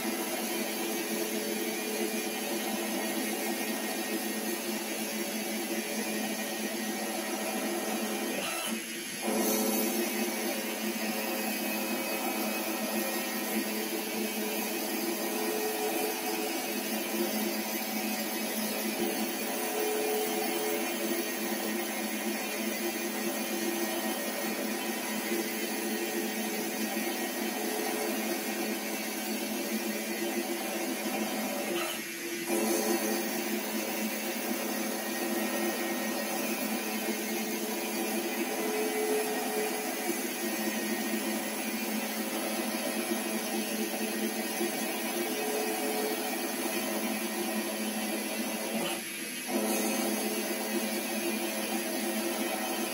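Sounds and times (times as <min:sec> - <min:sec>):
metal lathe whining: 0:00.0 - 0:52.9.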